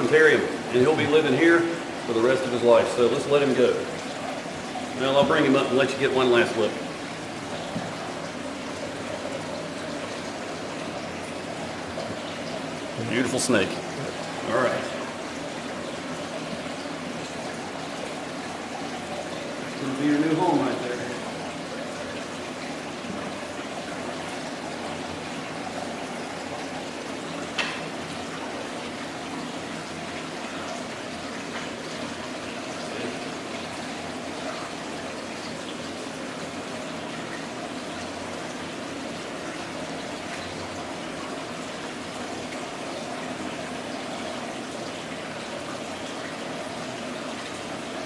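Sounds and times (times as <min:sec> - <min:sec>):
water trickling and splashing: 0:00.0 - 0:48.0.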